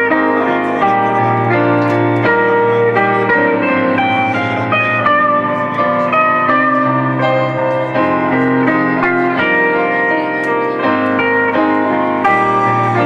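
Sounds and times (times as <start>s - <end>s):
keyboard: 0.0s - 13.0s
sustained lead guitar notes: 0.0s - 13.0s.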